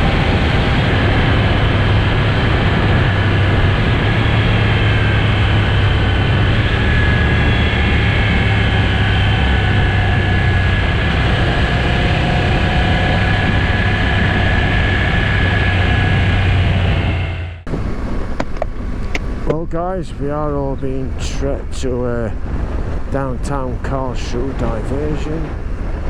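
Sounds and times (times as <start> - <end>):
motorcycle engine cruising: 0.0 - 26.0
road and wind noise: 0.0 - 26.0.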